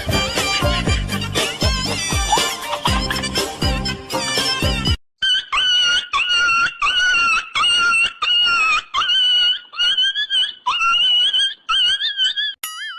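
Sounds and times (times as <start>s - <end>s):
comedy high-pitched squeals: 0.0s - 12.9s.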